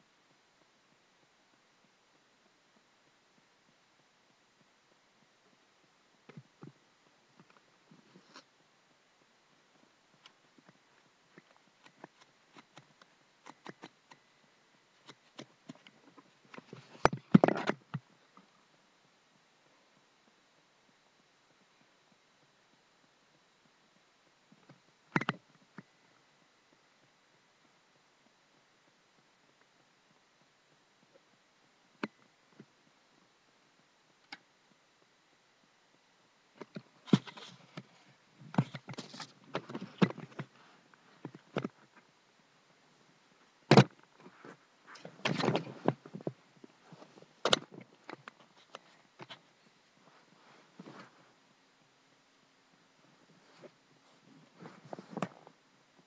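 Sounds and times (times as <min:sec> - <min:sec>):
rustling: 0:04.6 - 0:35.1, 0:36.5 - 0:51.9, 0:52.7 - 0:56.0.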